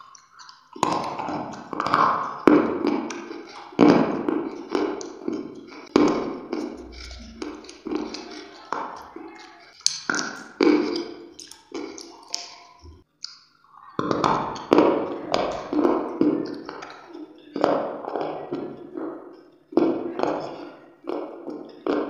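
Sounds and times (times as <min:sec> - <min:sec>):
crunching and chewing clay: 0:00.0 - 0:22.0.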